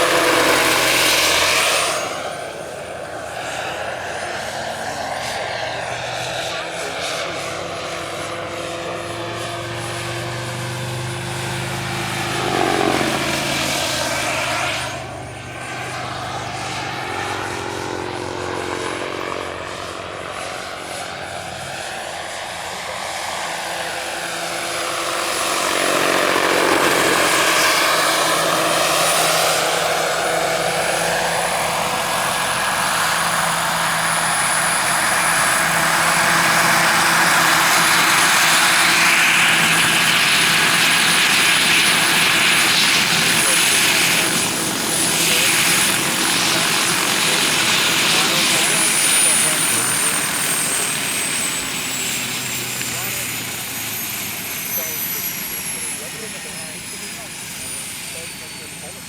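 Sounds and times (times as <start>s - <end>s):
helicopter rotor drone: 0.0s - 59.0s
turbine whine: 0.0s - 59.0s.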